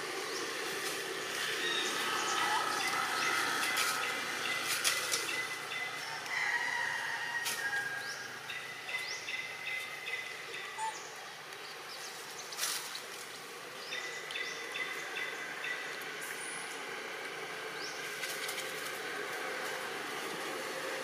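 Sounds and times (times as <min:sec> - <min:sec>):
birds chirping: 0:00.0 - 0:06.8, 0:07.6 - 0:20.9.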